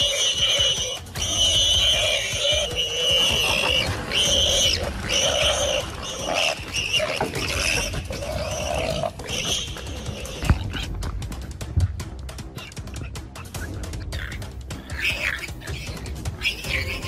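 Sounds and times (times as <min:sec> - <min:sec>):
warthog squealing: 0:00.0 - 0:11.1, 0:12.5 - 0:17.0.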